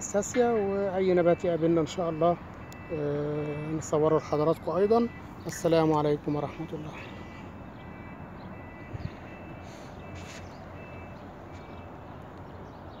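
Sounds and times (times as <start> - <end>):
faint high beeping tones: 0.0 - 12.1
outdoor background noise: 0.0 - 13.0.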